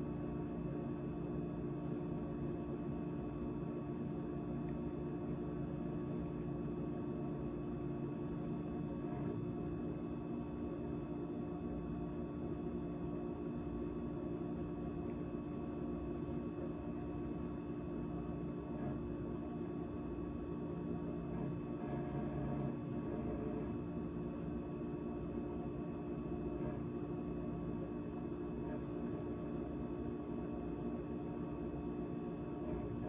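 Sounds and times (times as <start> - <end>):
refrigerator humming: 0.0 - 33.0.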